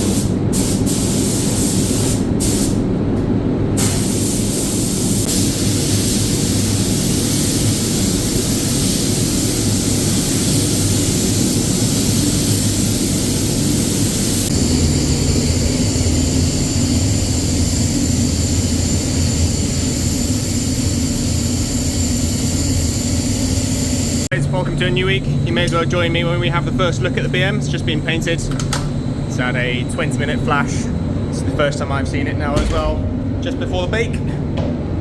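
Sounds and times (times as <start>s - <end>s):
spray booth airflow and fan hum: 0.0s - 35.0s.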